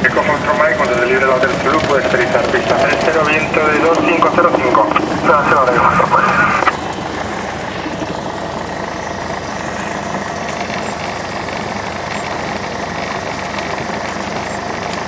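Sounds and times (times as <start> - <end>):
light aircraft engine running: 0.0 - 15.0.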